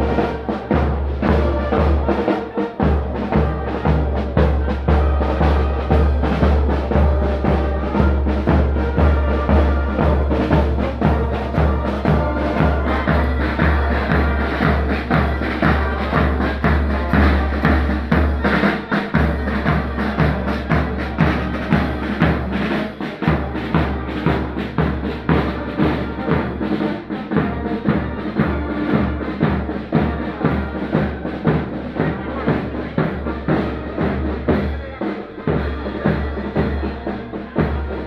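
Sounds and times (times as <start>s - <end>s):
marching brass band: 0.0s - 38.0s.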